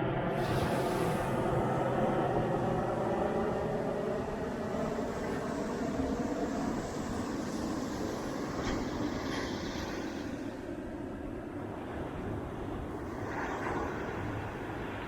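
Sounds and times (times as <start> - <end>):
jet aircraft rumble overhead: 0.0 - 15.0.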